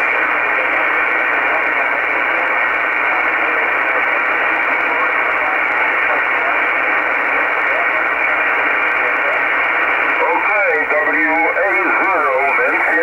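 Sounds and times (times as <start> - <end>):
shortwave radio hiss: 0.0 - 13.0.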